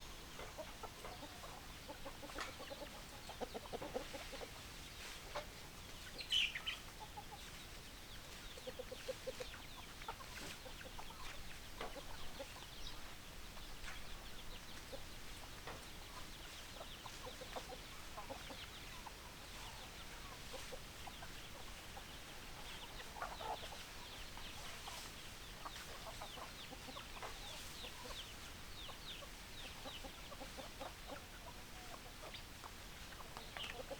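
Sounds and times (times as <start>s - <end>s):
hens clucking: 0.0s - 33.9s.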